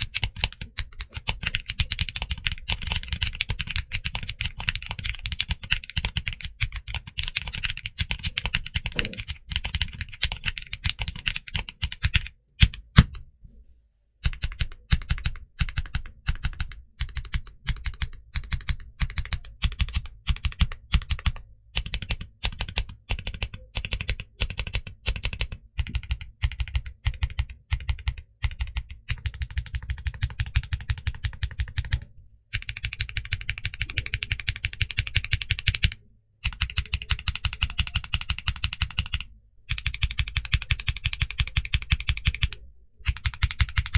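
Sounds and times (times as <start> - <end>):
fast typing on mechanical keyboard: 0.0 - 13.2, 14.2 - 43.9.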